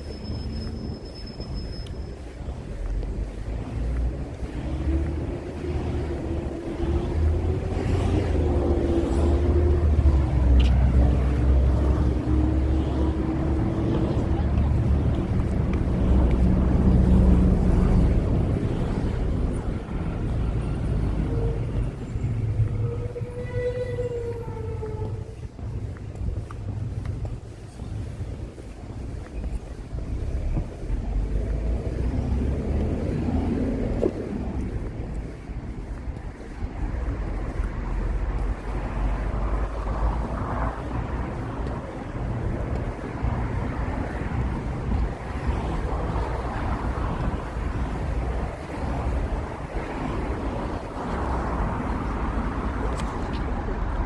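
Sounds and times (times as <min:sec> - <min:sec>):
vehicle low rumble: 0:00.0 - 0:54.0
wind buffeting microphone: 0:01.4 - 0:54.0.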